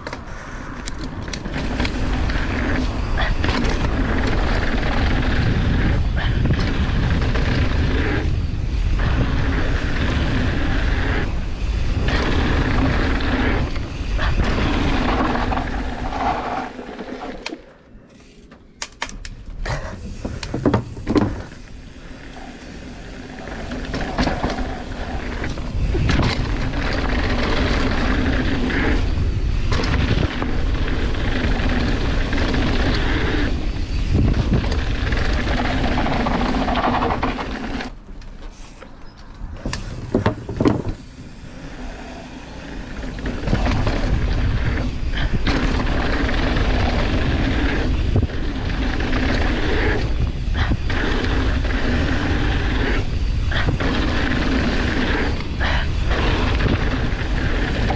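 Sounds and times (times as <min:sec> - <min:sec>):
wind rushing over microphone: 0:00.0 - 0:17.6, 0:19.4 - 0:38.0, 0:39.3 - 0:57.9
bike rattling: 0:00.0 - 0:57.9
tyres rolling over dirt: 0:01.1 - 0:17.8, 0:19.6 - 0:38.6, 0:39.4 - 0:57.9.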